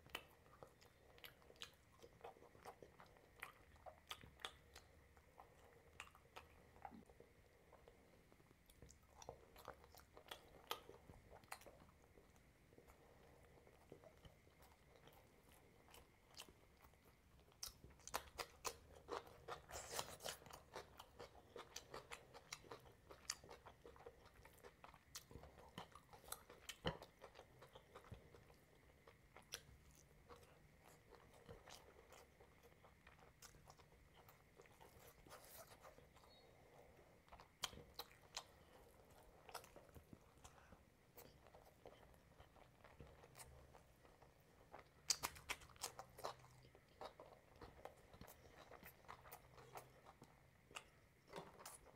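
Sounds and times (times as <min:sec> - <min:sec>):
chewing and biting food: 0:00.0 - 0:51.9.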